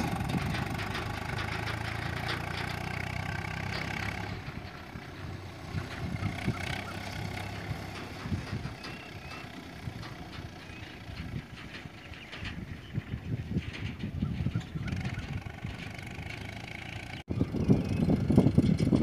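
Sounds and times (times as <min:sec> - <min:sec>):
low knocks and thumps: 0:00.0 - 0:16.6
tractor diesel engine running: 0:00.0 - 0:19.0.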